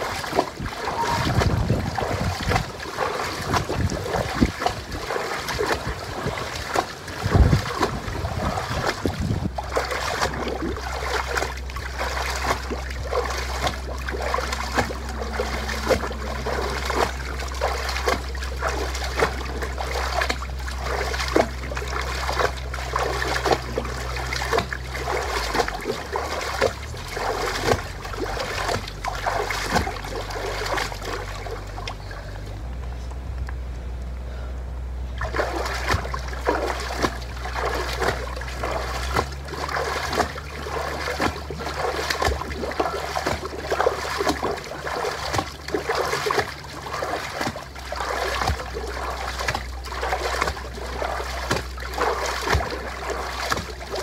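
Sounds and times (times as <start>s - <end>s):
water splashing under footsteps: 0.0s - 34.2s, 35.0s - 54.0s
low steady hum: 0.0s - 54.0s.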